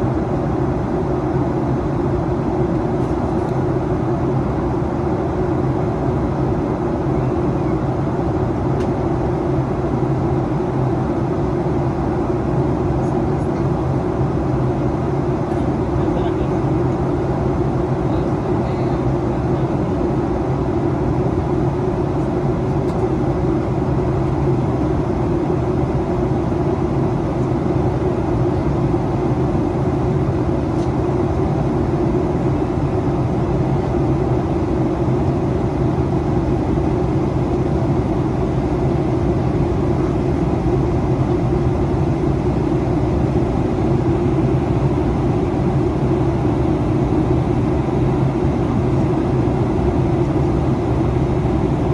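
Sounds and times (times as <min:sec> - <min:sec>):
low hum of jet engines: 0:00.0 - 0:51.9
rush of airflow: 0:07.9 - 0:51.9.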